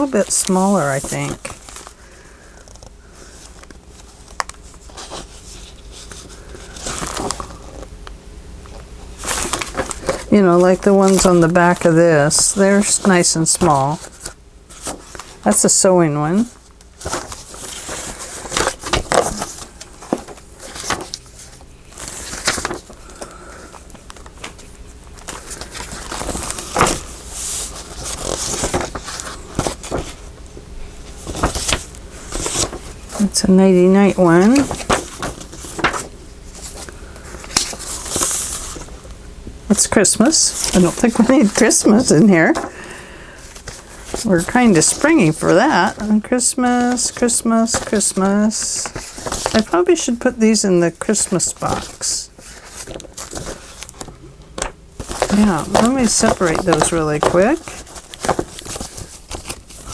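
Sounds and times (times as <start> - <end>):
paper rustling: 0.0 - 7.9, 9.1 - 30.4, 31.0 - 39.1, 39.7 - 59.9.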